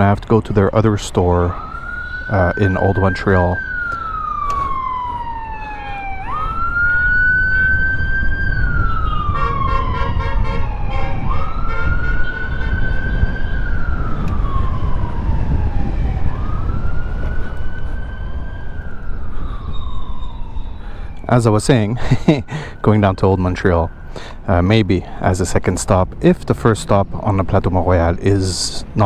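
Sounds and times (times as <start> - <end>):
emergency siren wailing: 0.0 - 29.0
low rumble of wind and road noise: 0.0 - 29.0.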